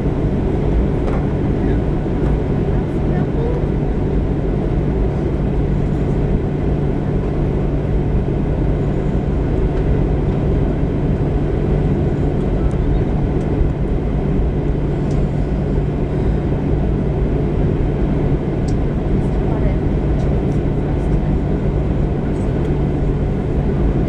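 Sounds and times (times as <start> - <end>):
aircraft cabin rumble: 0.0 - 24.0
jet engines idling: 0.0 - 24.0.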